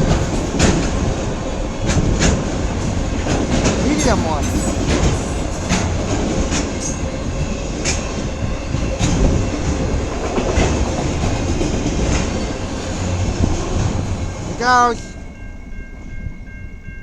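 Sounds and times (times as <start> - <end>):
wheel clacks on rail joints: 0.0 - 14.6
train rumble: 0.0 - 17.0.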